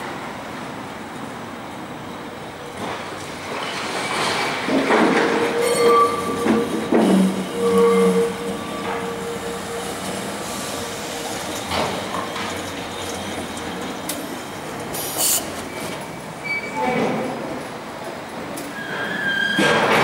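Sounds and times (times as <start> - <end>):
tram wheels rumbling on track: 0.0 - 20.0
tram wheel squeal: 2.0 - 17.6, 18.6 - 20.0.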